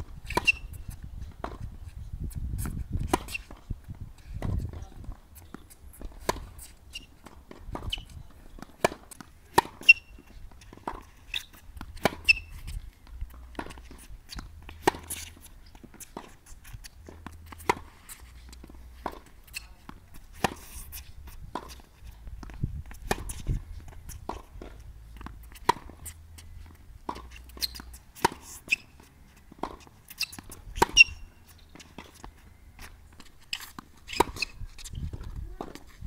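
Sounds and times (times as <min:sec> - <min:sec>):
shoes squeaking on court: 0:00.0 - 0:36.0
tennis balls hit and bouncing: 0:00.0 - 0:36.0.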